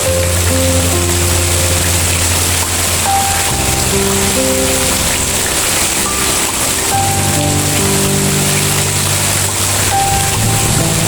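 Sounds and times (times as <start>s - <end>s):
heavy rain: 0.0s - 11.0s
low steady tones: 0.0s - 11.0s.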